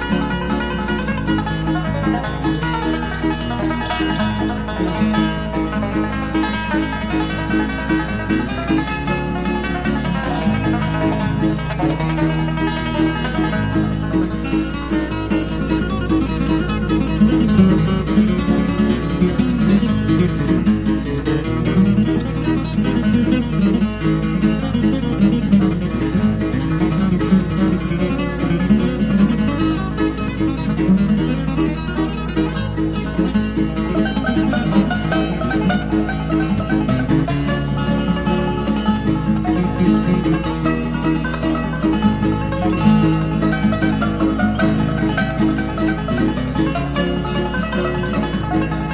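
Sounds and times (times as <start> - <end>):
instrumental bluegrass string band: 0.0 - 48.9.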